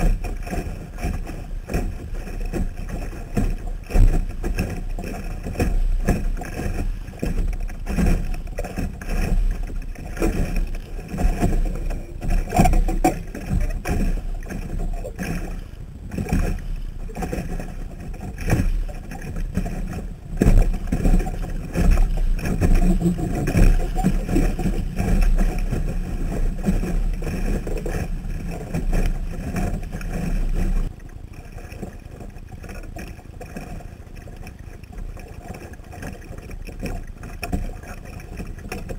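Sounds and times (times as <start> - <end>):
water rushing along a hull: 0.0 - 38.9
water splashes: 0.0 - 38.9.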